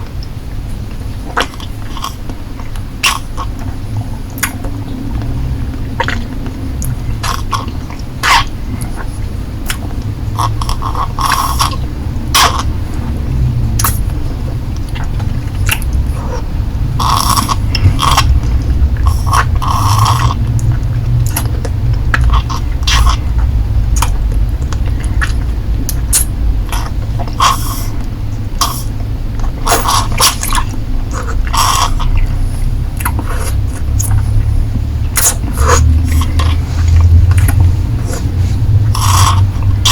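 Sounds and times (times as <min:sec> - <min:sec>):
steady low hum: 0:00.0 - 0:39.9
lollipop sucking and licking: 0:06.0 - 0:12.8, 0:13.7 - 0:14.2, 0:14.8 - 0:39.9.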